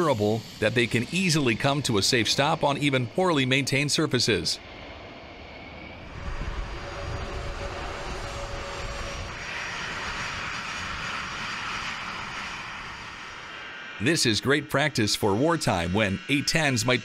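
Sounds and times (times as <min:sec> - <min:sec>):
faint engine whine: 0:00.0 - 0:17.0
jet engines rushing: 0:00.0 - 0:17.0.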